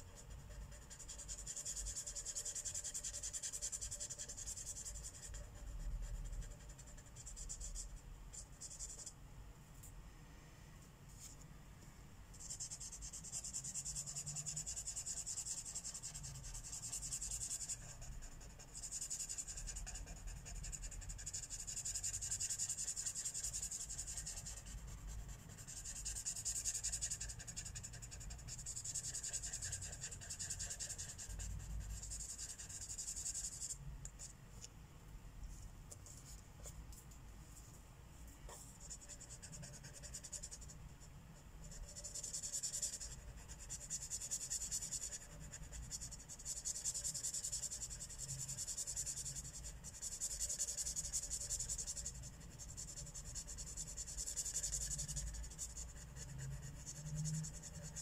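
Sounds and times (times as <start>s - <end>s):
marker scratching on paper: 0.0s - 9.1s, 12.4s - 34.3s, 38.5s - 41.0s, 41.6s - 58.0s.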